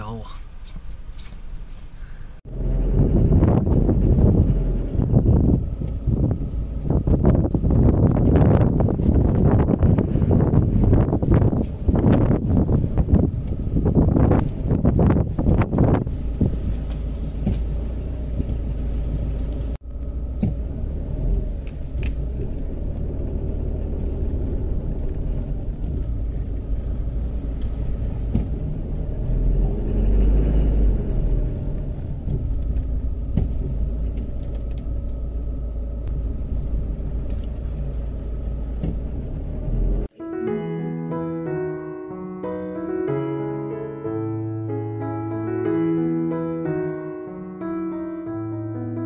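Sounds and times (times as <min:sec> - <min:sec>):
car engine and road rumble: 0:00.0 - 0:40.2.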